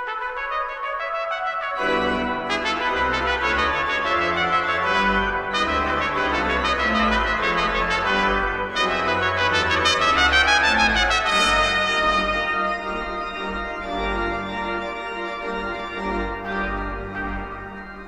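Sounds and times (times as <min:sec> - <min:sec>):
trumpet melody: 0:00.0 - 0:18.0
organ chords: 0:00.1 - 0:18.0.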